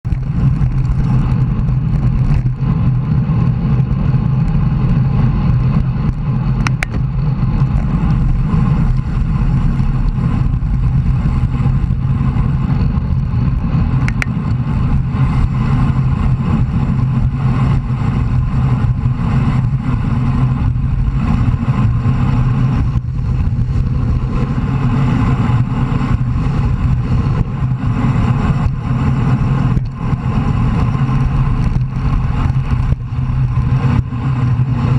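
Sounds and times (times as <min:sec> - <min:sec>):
bicycle road noise: 0:00.0 - 0:34.9
wind rush on microphone: 0:00.0 - 0:34.9.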